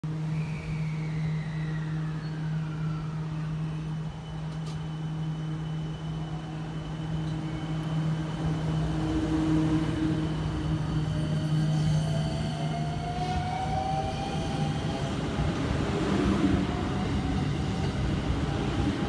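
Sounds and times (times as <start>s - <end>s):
train low hum: 0.0s - 19.0s.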